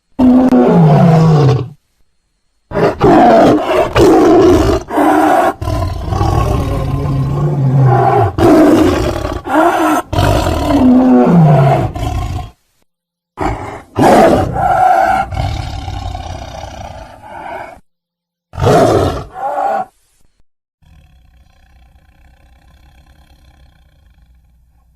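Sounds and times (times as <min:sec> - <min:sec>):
tiger-like roars and growls: 0:00.2 - 0:01.8, 0:02.7 - 0:12.6, 0:13.4 - 0:17.8, 0:18.6 - 0:19.9, 0:20.8 - 0:24.8.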